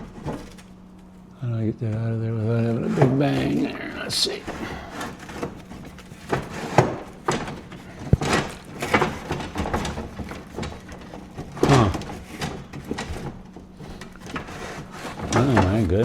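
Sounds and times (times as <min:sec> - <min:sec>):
wood knocking and scraping: 0:00.0 - 0:01.2, 0:01.9 - 0:16.0.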